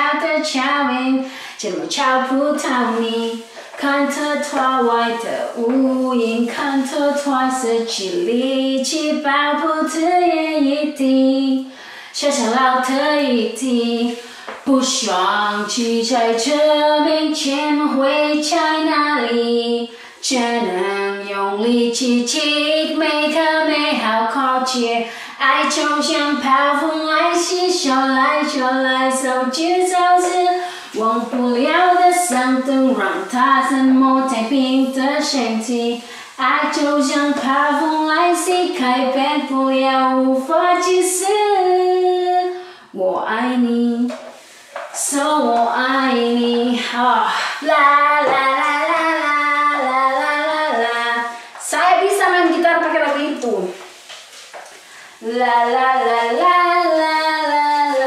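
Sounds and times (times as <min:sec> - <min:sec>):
woman singing unaccompanied: 0:00.0 - 0:53.8, 0:55.2 - 0:58.0.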